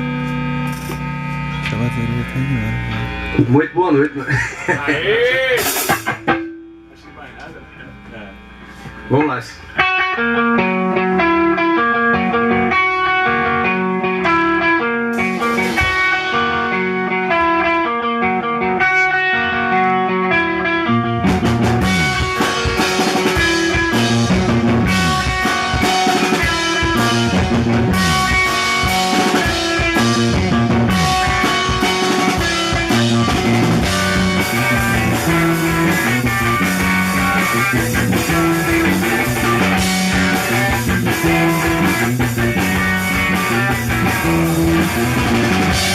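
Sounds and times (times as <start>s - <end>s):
blues rock band playing: 0.0s - 9.0s, 9.7s - 45.9s
electric guitar intro: 0.0s - 45.9s.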